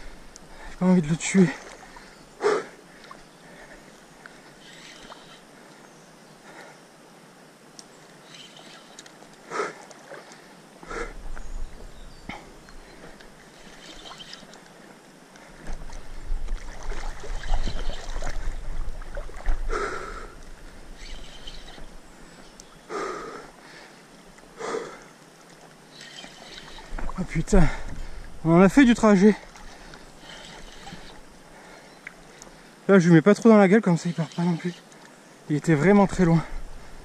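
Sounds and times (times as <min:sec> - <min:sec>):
river water: 0:00.0 - 0:37.0.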